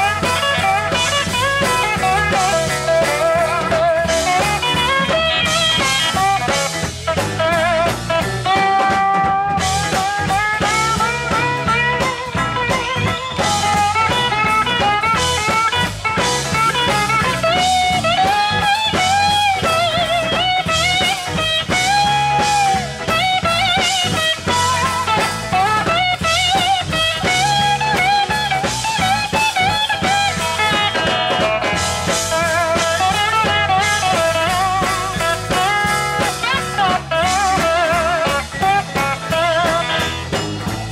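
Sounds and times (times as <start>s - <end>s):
drum kit: 0.0s - 40.9s
electric bass: 0.0s - 40.9s
electric guitar: 0.0s - 40.9s
steel guitar sliding notes: 0.0s - 40.9s.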